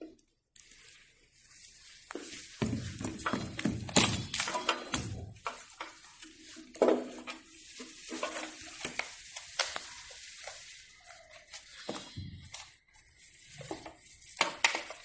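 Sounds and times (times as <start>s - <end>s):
rustling: 0.1s - 15.0s.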